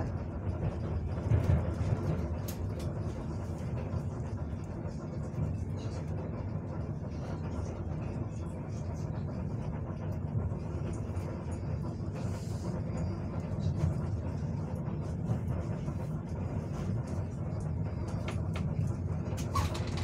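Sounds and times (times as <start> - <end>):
train carriage rumble and hum: 0.0 - 20.0.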